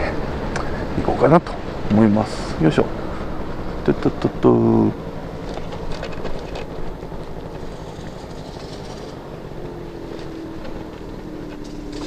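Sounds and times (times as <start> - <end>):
faint whine: 0.0 - 12.0
scooter engine running: 0.0 - 12.0.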